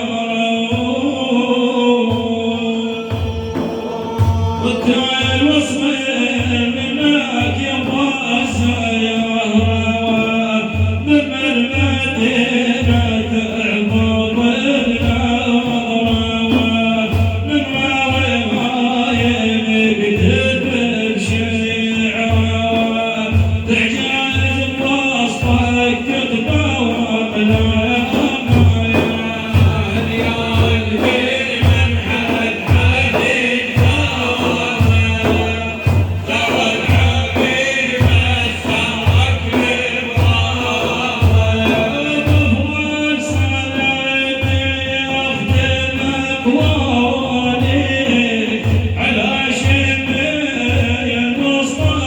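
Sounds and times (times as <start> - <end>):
low drum beat: 0.0 - 52.0
men singing a chant: 0.0 - 52.0.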